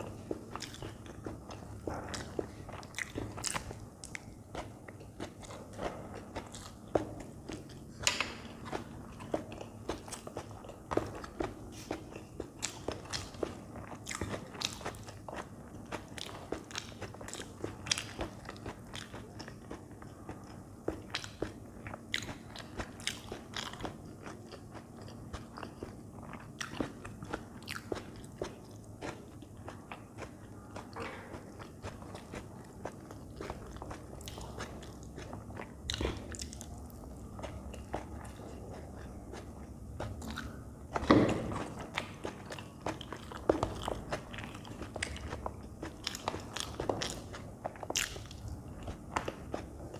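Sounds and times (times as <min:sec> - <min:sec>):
wet chewing with mouth clicks: 0:00.0 - 0:49.9.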